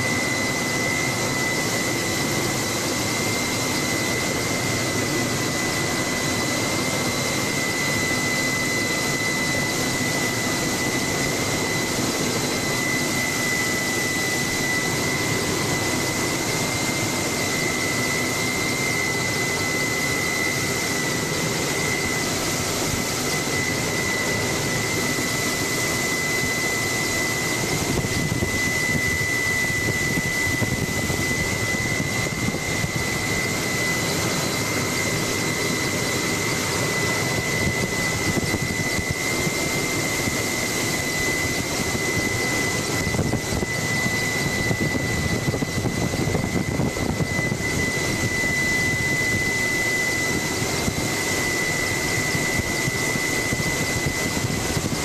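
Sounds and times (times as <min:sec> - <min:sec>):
helicopter engine and rotor noise: 0:00.0 - 0:55.0.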